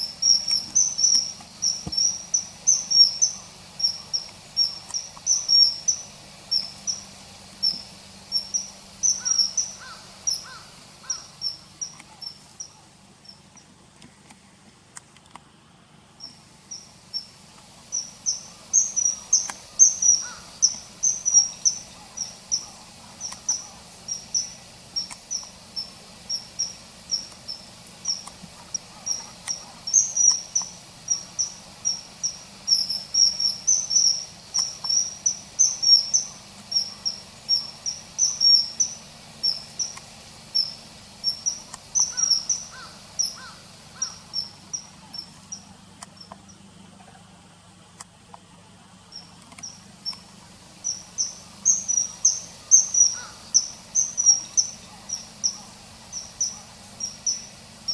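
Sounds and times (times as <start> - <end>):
kingfisher high-pitched whistles: 0.0 - 12.8, 16.2 - 45.7, 49.6 - 57.9.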